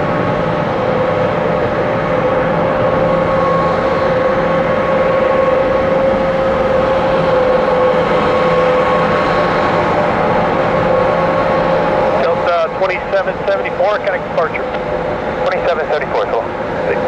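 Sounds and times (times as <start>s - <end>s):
jet engine roar: 0.0s - 17.0s
jet engine whine: 0.0s - 17.0s.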